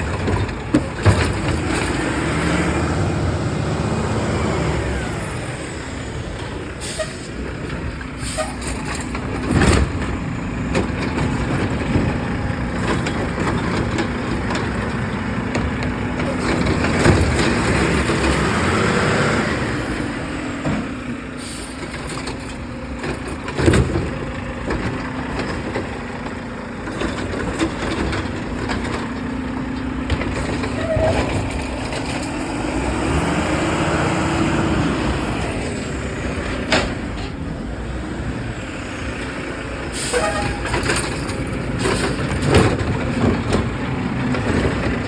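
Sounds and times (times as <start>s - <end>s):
garbage truck running: 0.0s - 45.0s.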